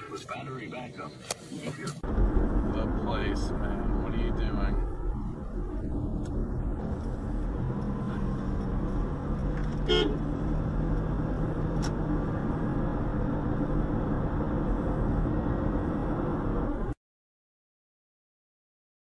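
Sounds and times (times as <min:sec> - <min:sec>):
car driving heard from inside: 0:01.6 - 0:17.0.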